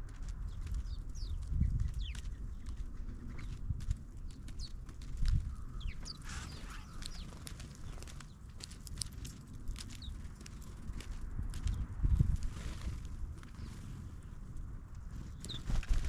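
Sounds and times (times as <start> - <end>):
songbirds chirping: 0.3 - 10.8, 13.4 - 16.0.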